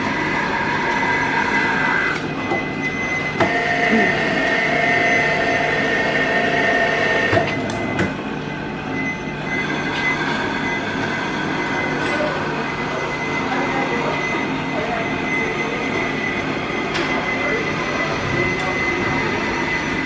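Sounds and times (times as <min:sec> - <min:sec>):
band saw whining: 0:00.0 - 0:20.0.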